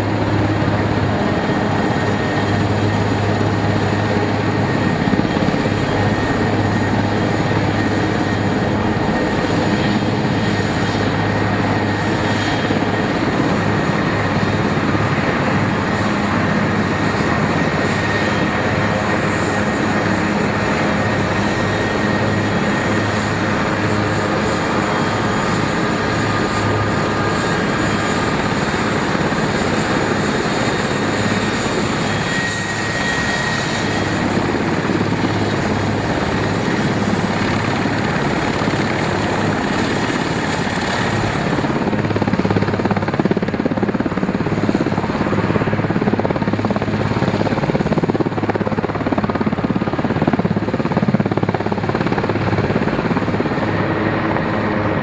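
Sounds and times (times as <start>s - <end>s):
helicopter rotor and engine: 0.0s - 55.0s
high turbine whine: 0.0s - 55.0s.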